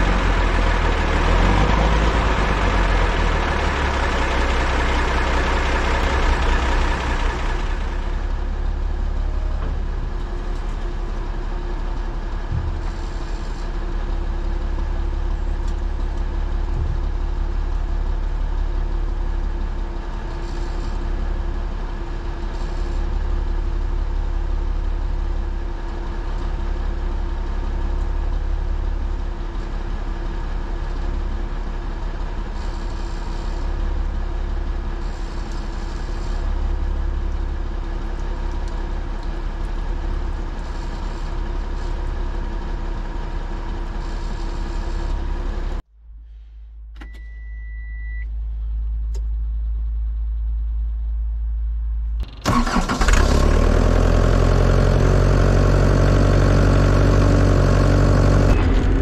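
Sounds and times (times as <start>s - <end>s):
truck diesel engine idling: 0.0s - 45.8s, 48.3s - 59.0s.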